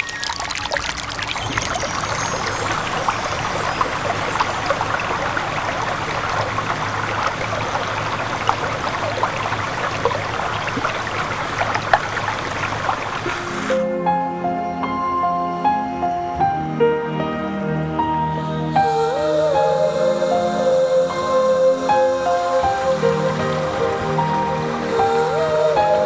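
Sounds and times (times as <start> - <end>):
stream water rushing: 0.0 - 14.1, 18.8 - 26.0.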